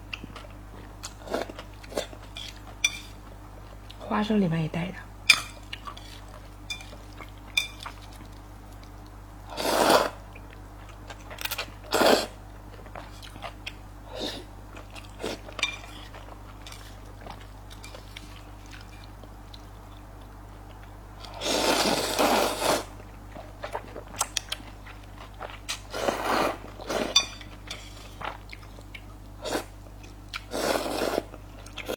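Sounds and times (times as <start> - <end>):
steady low hum: 0.0 - 31.9
chewing and crunching noodles: 5.6 - 31.9.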